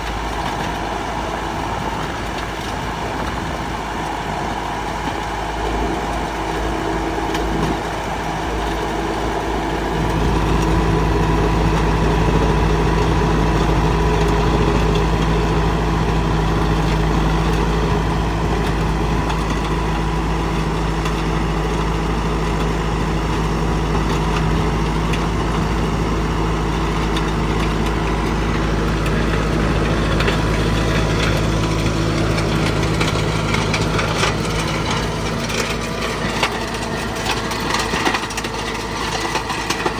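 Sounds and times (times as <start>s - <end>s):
stone-crushing machine engine drone: 0.0s - 39.9s.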